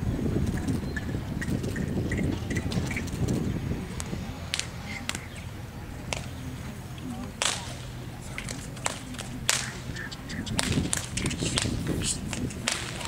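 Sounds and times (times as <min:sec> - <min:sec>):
whip cracking: 0:01.5 - 0:06.4, 0:07.0 - 0:13.0.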